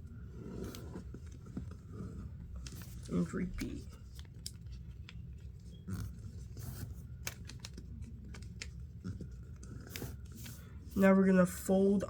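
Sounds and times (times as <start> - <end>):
low steady hum: 0.0 - 12.0
paper being folded and creased: 0.4 - 10.6.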